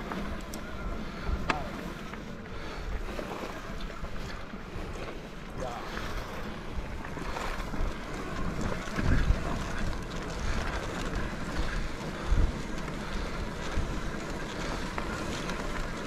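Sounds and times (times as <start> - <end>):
tyre and trail noise: 0.0 - 16.0
wind buffeting microphone: 0.0 - 16.0.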